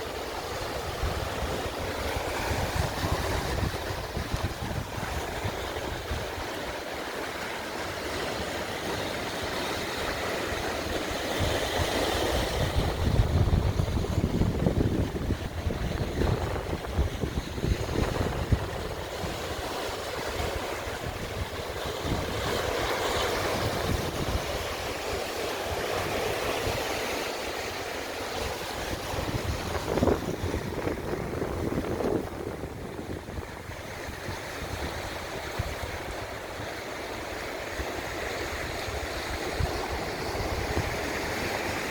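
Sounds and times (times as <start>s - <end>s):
sea waves washing on shore: 0.0s - 41.9s
wind gusting across microphone: 0.0s - 41.9s.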